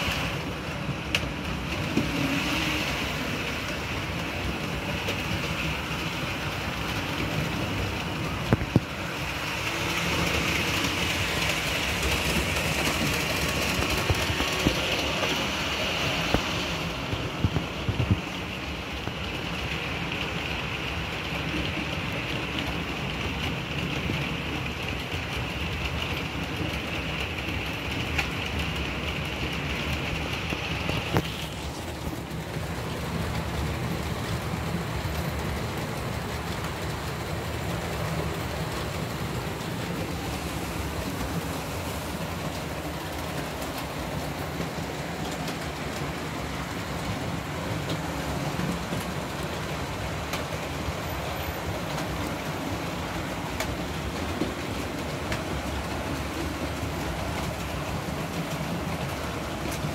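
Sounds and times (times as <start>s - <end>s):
wheels rattling on rail: 0.0s - 59.9s.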